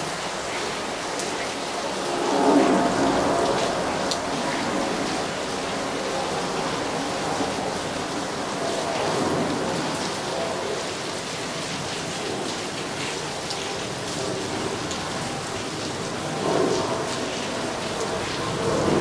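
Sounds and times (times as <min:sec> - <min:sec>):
raindrops ticking: 0:00.0 - 0:19.0
steady rain: 0:00.0 - 0:19.0.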